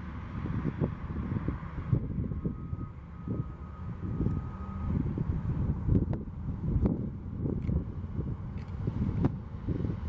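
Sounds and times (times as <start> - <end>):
diesel locomotive rumbling: 0.0 - 10.0
wind buffeting microphone: 0.0 - 10.0.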